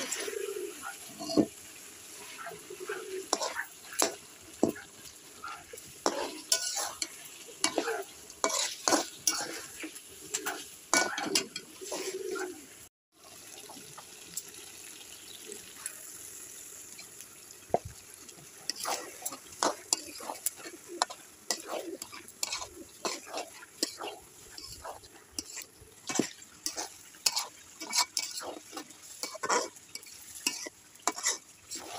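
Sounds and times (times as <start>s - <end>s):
spatula scraping a pan: 0.0s - 12.5s, 18.6s - 31.9s
food sizzling in hot oil: 0.0s - 31.9s.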